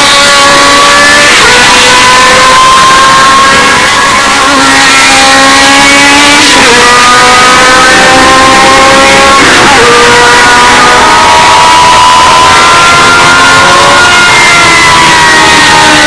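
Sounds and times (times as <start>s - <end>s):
racing car engine at full throttle: 0.0s - 16.0s.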